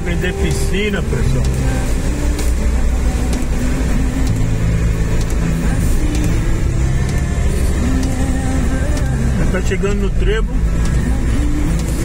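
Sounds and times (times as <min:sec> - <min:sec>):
engine and tyre rumble: 0:00.0 - 0:12.0
rain and tyre spray hiss: 0:00.0 - 0:12.0.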